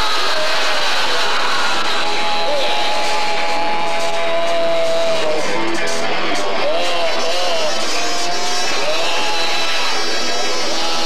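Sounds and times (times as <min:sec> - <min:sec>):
electric guitar: 0:00.0 - 0:11.0.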